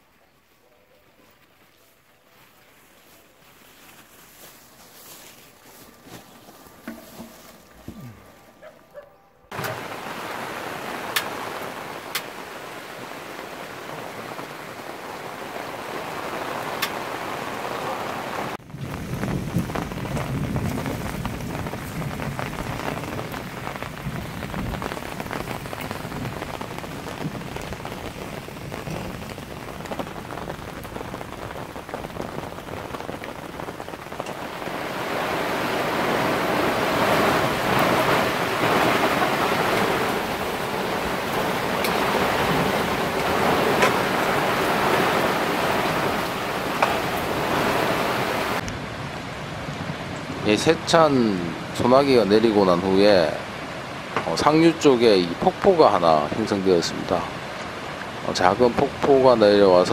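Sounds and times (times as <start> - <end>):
rain beating on parasol canopy: 1.4 - 8.8, 9.5 - 59.9
heavy rain pouring: 5.0 - 8.8, 9.5 - 59.9.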